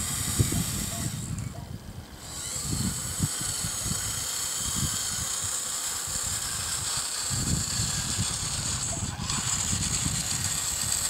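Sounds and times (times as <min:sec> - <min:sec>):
toy motor high whine: 0:00.0 - 0:01.5, 0:02.1 - 0:11.0.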